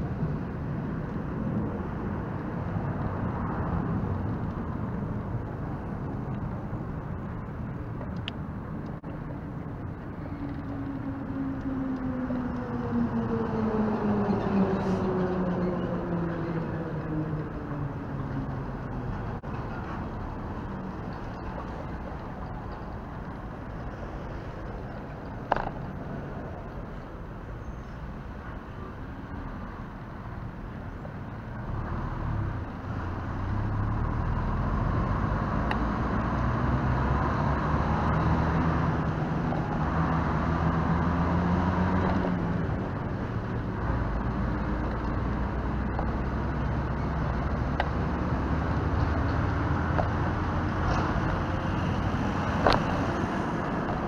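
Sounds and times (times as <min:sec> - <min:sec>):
lorry engine hum: 0:00.0 - 0:54.0
road traffic passing: 0:00.0 - 0:54.0.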